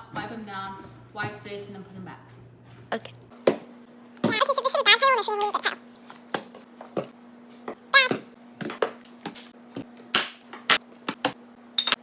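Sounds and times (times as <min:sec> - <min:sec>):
fridge low hum: 0:00.0 - 0:12.0.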